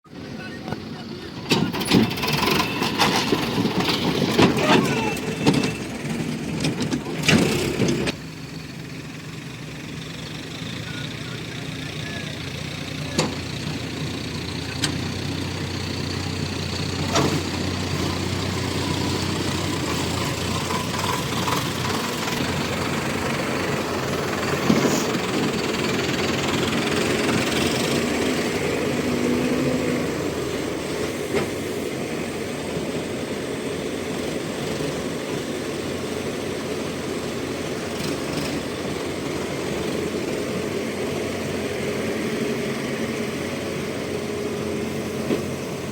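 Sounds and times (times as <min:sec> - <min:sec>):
excavator and tractor diesel engines: 0:00.0 - 0:45.9.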